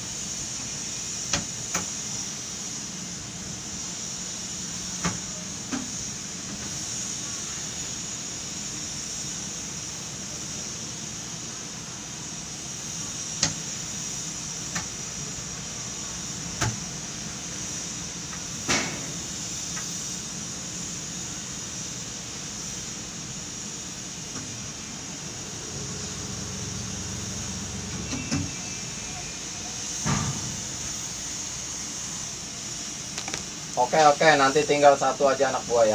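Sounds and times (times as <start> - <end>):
machinery hum with high hiss: 0.0 - 35.9.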